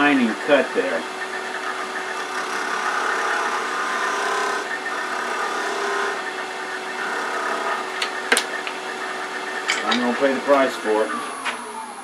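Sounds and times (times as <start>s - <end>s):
chisel cutting spinning wood: 0.0s - 11.4s
wood lathe motor hum: 0.0s - 12.0s.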